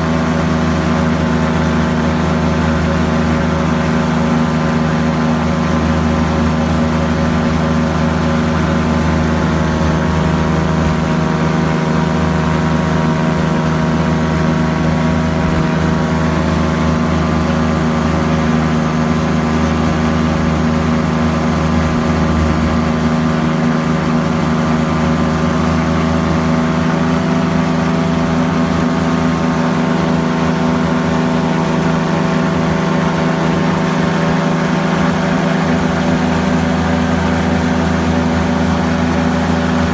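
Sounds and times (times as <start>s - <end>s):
ultralight aircraft engine drone: 0.0s - 39.9s.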